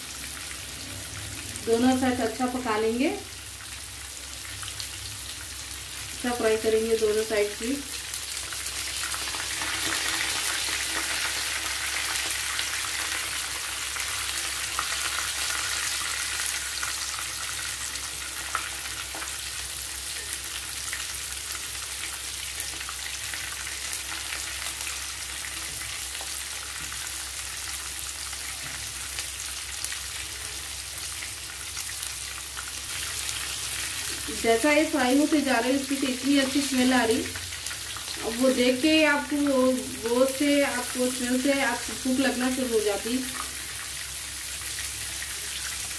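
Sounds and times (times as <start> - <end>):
kebabs sizzling in hot oil: 0.0 - 45.9.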